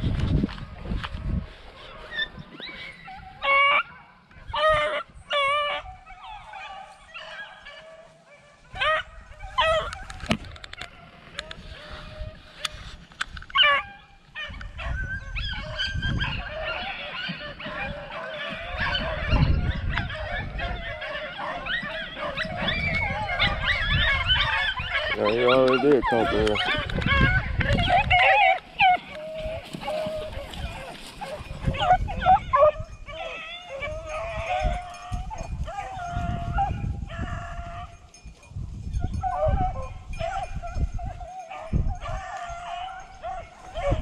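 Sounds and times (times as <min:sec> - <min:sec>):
hounds baying: 0:01.0 - 0:44.0.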